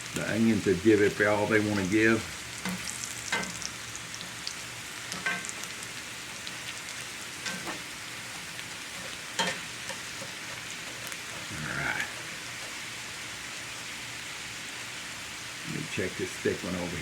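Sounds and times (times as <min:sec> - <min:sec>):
potatoes sizzling in oil: 0:00.0 - 0:17.0.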